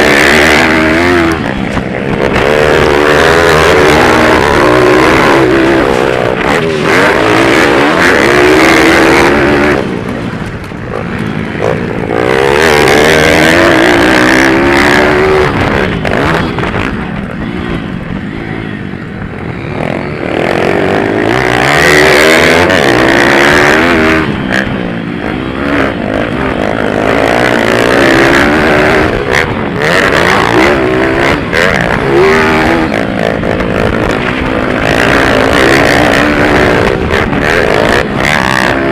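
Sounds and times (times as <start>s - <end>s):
pit bike engines revving: 0.0s - 38.9s.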